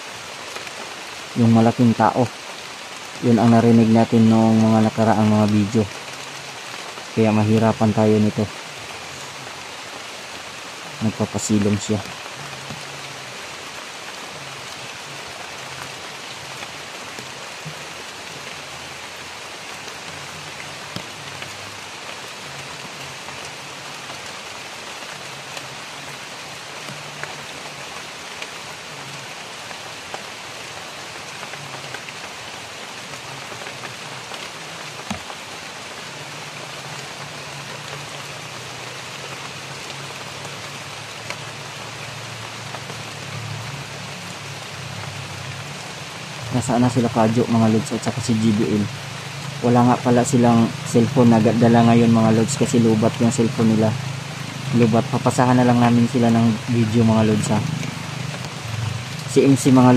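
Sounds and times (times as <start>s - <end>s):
rain on foliage: 0.0s - 59.9s.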